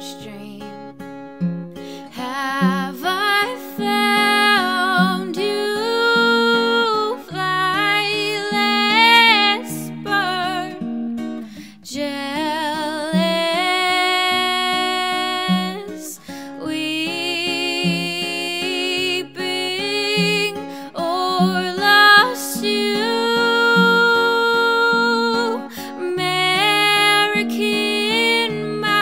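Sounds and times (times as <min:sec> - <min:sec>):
woman singing wordless notes: 0:00.0 - 0:00.8, 0:02.0 - 0:10.8, 0:11.8 - 0:29.0
acoustic guitar picking: 0:00.0 - 0:29.0.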